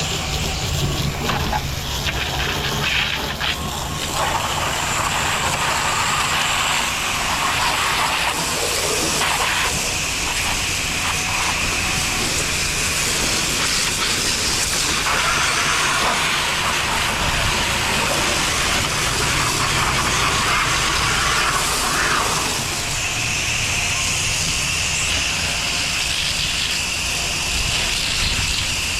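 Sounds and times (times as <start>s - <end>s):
high-pressure water spray hiss: 0.0s - 28.9s
pressure washer pump drone: 0.0s - 28.9s.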